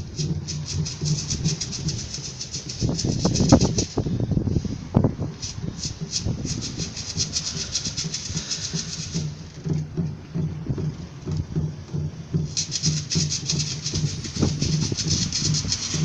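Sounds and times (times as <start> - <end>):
bass drums beating: 0.0 - 16.0
fast shaker rhythm: 0.0 - 16.0.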